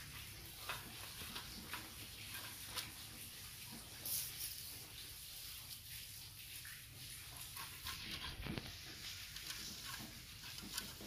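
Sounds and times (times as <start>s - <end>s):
puppies licking wetly: 0.0s - 10.8s.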